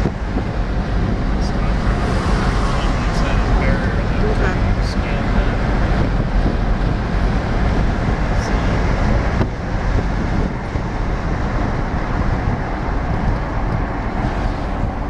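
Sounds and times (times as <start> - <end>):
road rumble inside vehicle: 0.0 - 15.0
wind rushing past window: 0.0 - 15.0.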